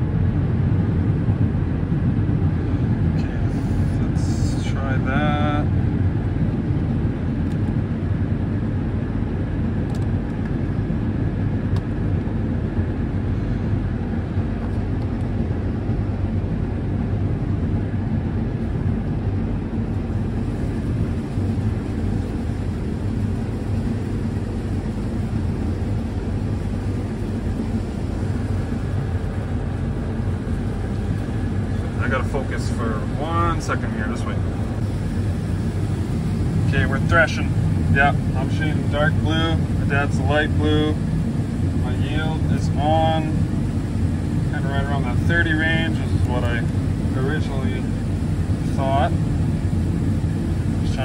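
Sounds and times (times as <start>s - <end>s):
combine harvester drone: 0.0s - 51.0s.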